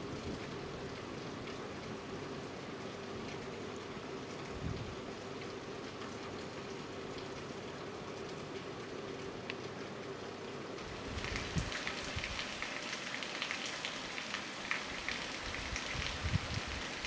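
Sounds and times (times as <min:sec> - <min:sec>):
rain falling: 0:00.0 - 0:17.0
raindrops pattering close by: 0:00.0 - 0:17.0.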